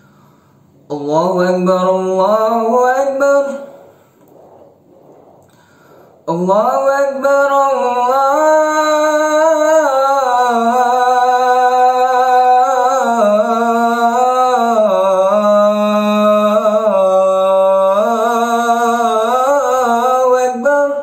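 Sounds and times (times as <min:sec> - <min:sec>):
man chanting call to prayer: 0:00.9 - 0:05.4, 0:06.2 - 0:21.0.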